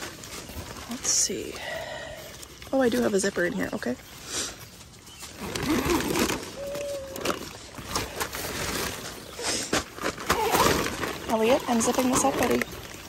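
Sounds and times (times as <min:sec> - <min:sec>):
nylon tent fabric rustling: 0:00.0 - 0:13.0.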